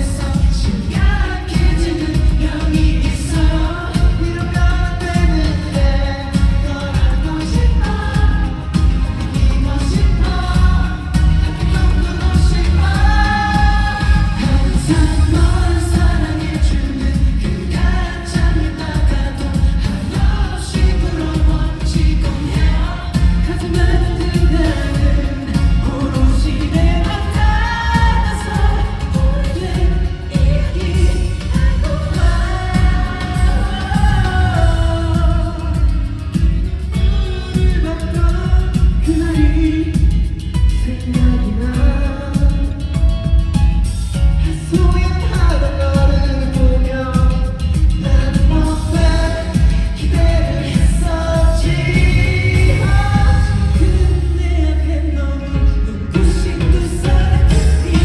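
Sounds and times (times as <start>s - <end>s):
male group singing: 0.0s - 43.1s, 43.9s - 58.0s
pop backing track with heavy bass: 0.0s - 58.0s.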